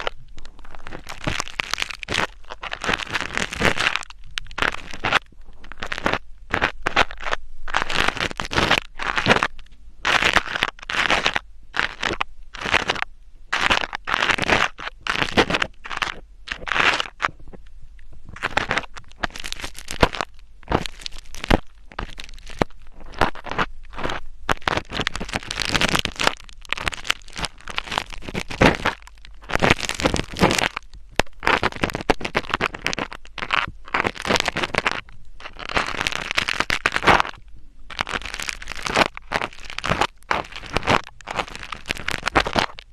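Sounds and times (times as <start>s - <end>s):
scratching on microphone: 0.0s - 42.9s.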